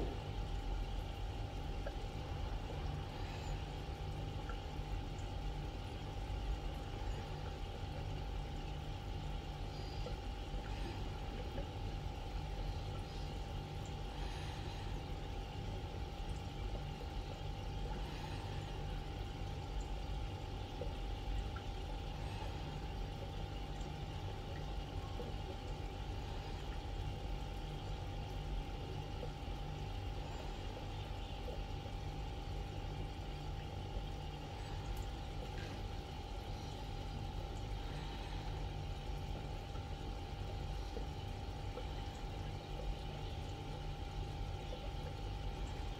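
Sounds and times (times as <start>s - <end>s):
aquarium filter humming: 0.0s - 45.9s
faint water trickle: 0.0s - 45.9s.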